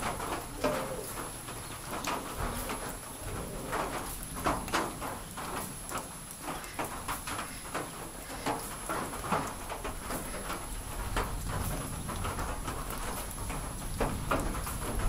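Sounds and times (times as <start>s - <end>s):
water dripping: 0.0s - 15.0s.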